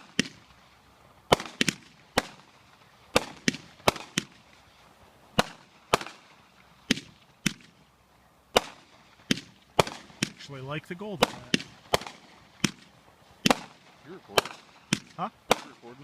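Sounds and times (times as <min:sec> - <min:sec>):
fireworks bangs with echo: 0:00.0 - 0:00.6, 0:01.3 - 0:04.6, 0:05.4 - 0:07.8, 0:08.5 - 0:16.0.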